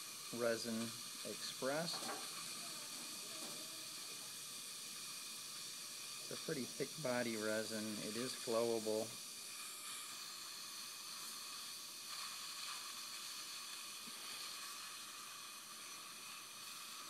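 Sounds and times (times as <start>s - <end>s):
dental suction hissing: 0.0s - 17.0s.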